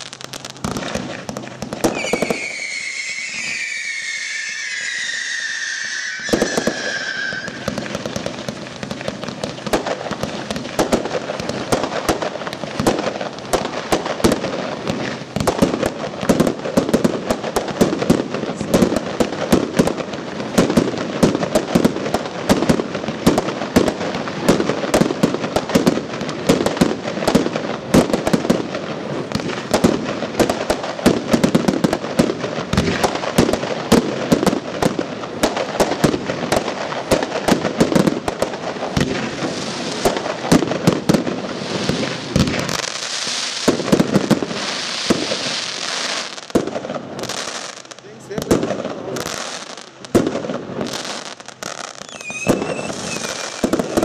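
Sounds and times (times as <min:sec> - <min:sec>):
fireworks bursting and crackling: 0:00.0 - 0:54.0
steady hiss: 0:00.0 - 0:54.0.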